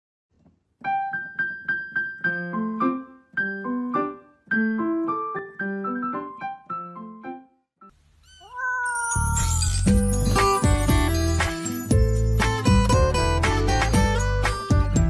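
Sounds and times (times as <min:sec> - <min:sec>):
bouncy keyboard melody: 0:00.8 - 0:07.7, 0:09.4 - 0:15.0.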